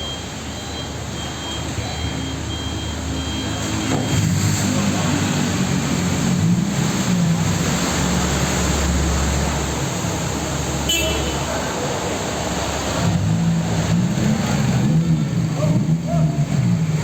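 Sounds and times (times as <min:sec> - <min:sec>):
vehicle engine: 0:00.0 - 0:17.0.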